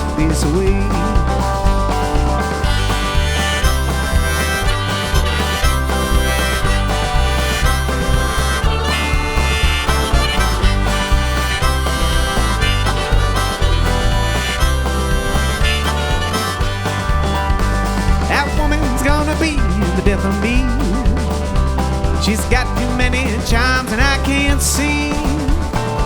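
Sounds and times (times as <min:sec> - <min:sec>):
harmonica solo: 0:00.0 - 0:25.1
band playing instrumental: 0:00.0 - 0:26.0
steady drum beat: 0:00.0 - 0:26.0.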